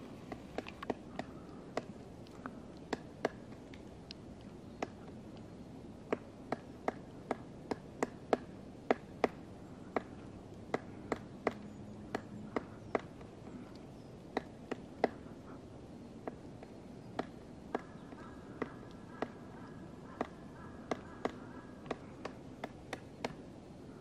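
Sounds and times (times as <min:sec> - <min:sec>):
woodpecker pecking wood: 0:00.0 - 0:24.0.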